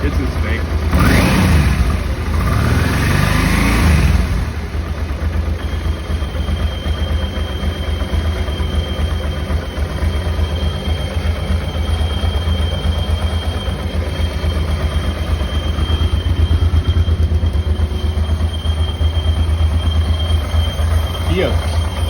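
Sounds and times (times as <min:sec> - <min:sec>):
high-pitched squeal: 0:00.0 - 0:22.0
motorcycle engine idling: 0:00.0 - 0:22.0.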